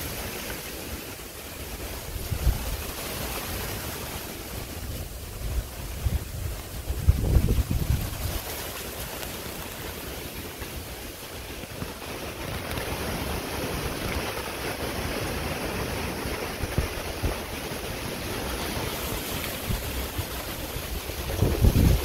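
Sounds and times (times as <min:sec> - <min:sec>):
wind buffeting the microphone: 0:00.0 - 0:22.0.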